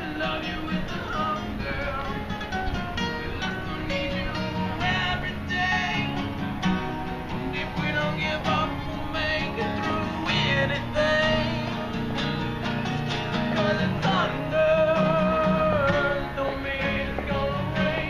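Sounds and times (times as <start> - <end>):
guitar playing: 0.0 - 18.0.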